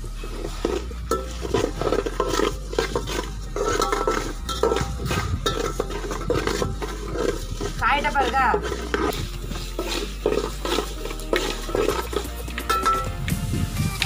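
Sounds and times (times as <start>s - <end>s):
metal ladle scraping a pot: 0.0s - 13.8s.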